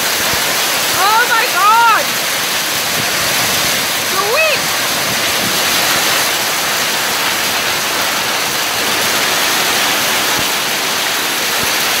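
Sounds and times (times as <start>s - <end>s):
heavy rain: 0.0s - 12.0s
wind: 0.0s - 12.0s.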